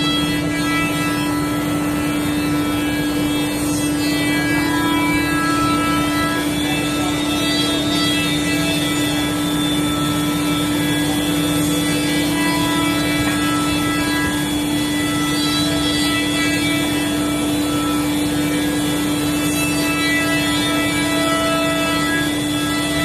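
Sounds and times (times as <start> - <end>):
router spindle whining: 0.0 - 23.0.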